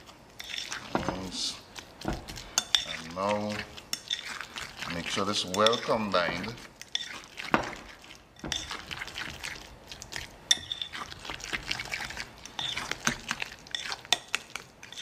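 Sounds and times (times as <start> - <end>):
batter being stirred: 0.0 - 15.0
utensil scraping glass bowl: 0.0 - 15.0.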